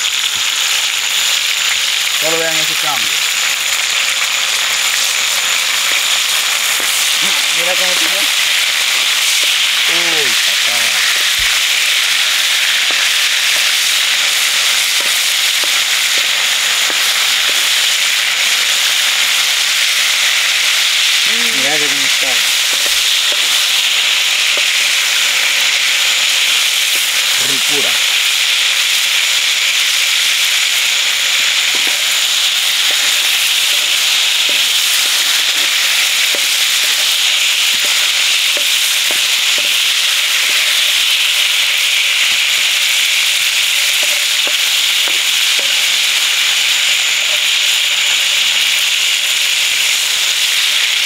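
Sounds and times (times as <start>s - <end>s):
shrimp sizzling in hot oil: 0.0s - 51.0s.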